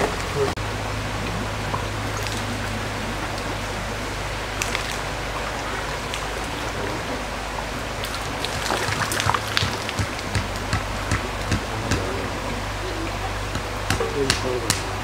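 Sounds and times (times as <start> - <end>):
low steady hum: 0.0 - 15.0
stream water rushing: 0.0 - 15.0
sharp crackles: 1.2 - 15.0.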